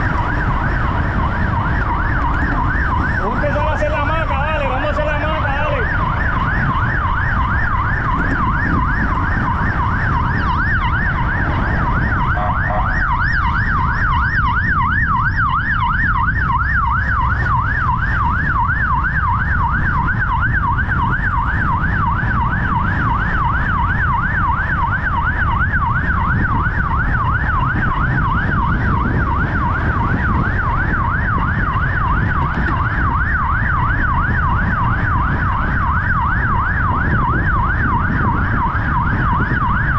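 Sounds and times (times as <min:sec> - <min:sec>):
low rumble: 0:00.0 - 0:39.8
siren yelping: 0:00.0 - 0:39.9.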